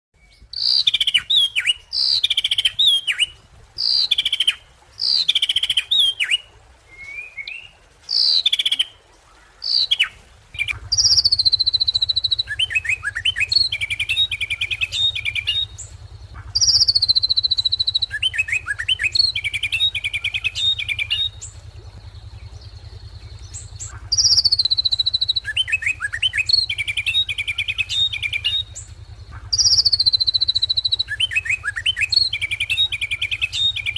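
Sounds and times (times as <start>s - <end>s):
bird singing: 0.1s - 33.9s
steady low hum: 0.2s - 8.1s, 8.9s - 33.9s.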